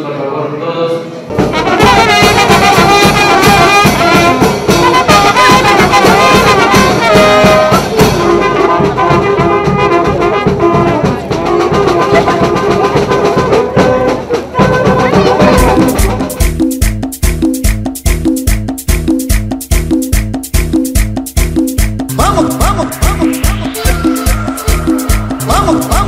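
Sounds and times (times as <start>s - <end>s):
brass band music: 1.1s - 26.0s.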